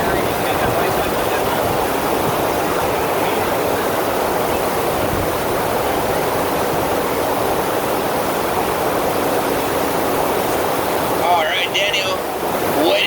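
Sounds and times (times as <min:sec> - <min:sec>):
water rushing over ride surface: 0:00.0 - 0:13.0.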